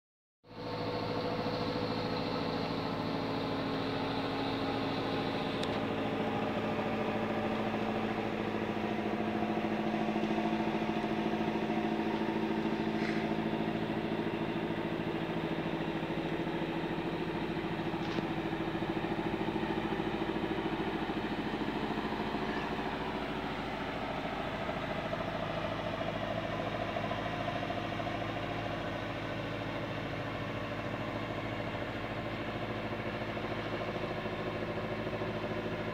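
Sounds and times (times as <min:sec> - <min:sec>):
boat engine droning: 0:00.5 - 0:35.9.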